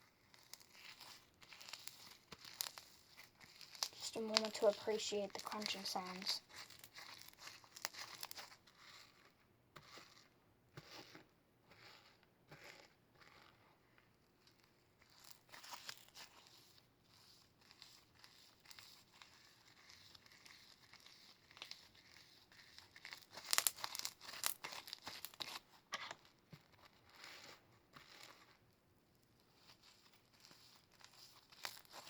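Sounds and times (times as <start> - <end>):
slime crunching when kneaded: 0.2 - 13.6, 15.0 - 28.7, 29.3 - 32.0.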